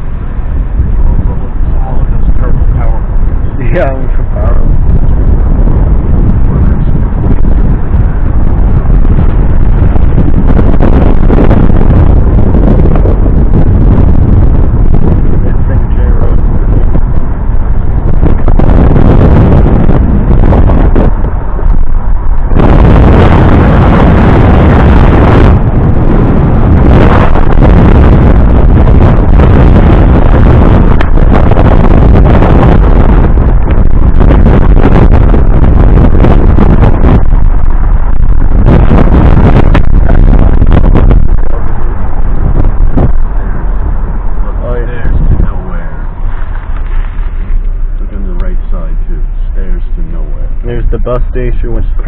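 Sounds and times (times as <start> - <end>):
car road noise: 0.0 - 52.0
wind buffeting microphone: 0.0 - 52.0.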